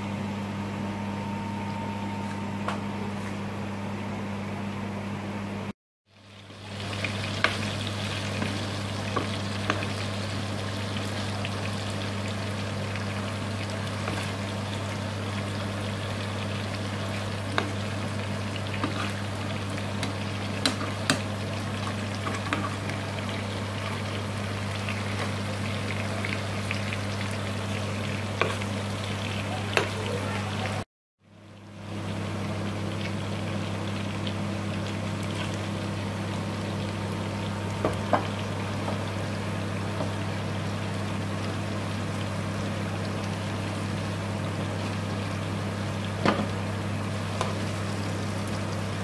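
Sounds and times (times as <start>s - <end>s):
chicken sizzling in frying pan: 6.1s - 30.9s, 31.7s - 49.0s.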